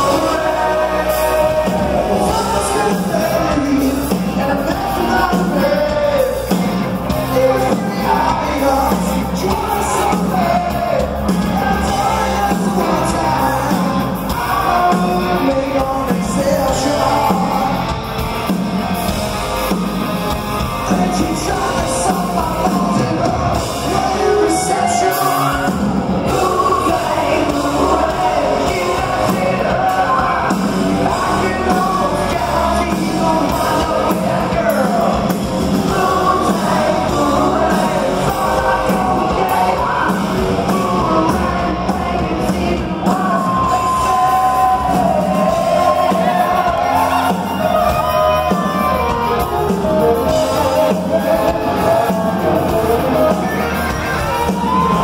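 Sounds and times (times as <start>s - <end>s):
man singing: 0.0s - 18.0s, 20.8s - 55.0s
live rock band playing: 0.0s - 55.0s.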